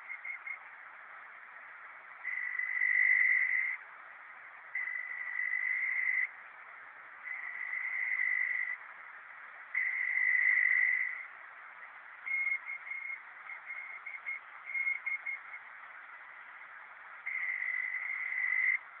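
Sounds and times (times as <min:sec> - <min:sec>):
receiver hiss: 0:00.0 - 0:19.0.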